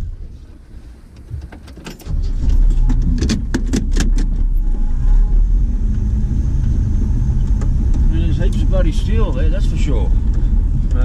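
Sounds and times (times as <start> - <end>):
car engine rumble: 0.0 - 11.0
sharp clicks and rattles: 1.1 - 4.8, 5.8 - 11.0.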